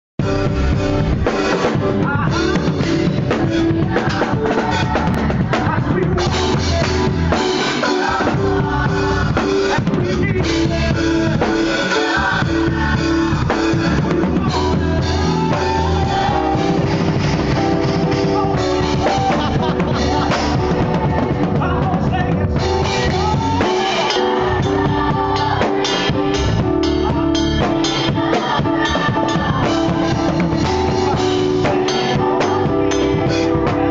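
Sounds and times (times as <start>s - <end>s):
acoustic drum kit: 0.2s - 33.9s
band holding sustained notes: 0.2s - 33.9s.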